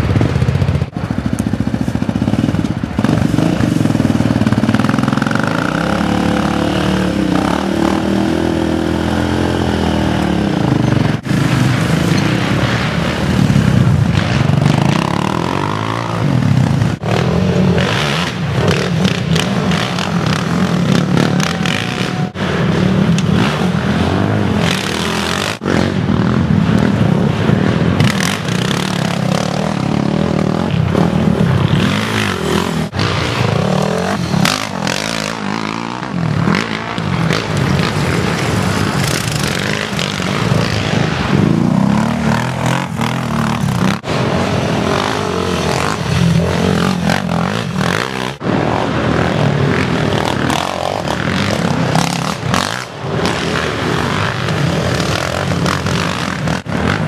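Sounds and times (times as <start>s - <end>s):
quad engines revving: 0.0s - 57.0s.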